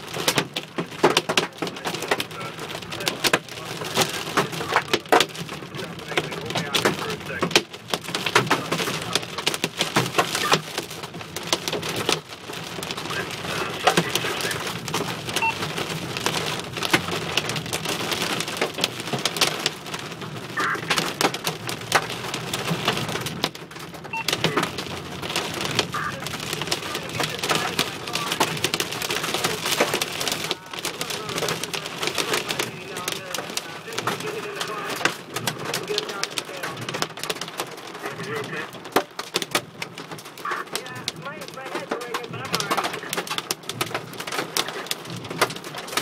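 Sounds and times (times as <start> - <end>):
hail clattering on car roof: 0.0 - 46.0
rain hiss: 0.0 - 46.0.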